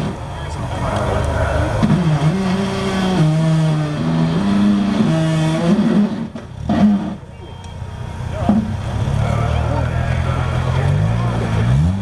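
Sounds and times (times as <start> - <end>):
truck engine running hard: 0.0 - 12.0.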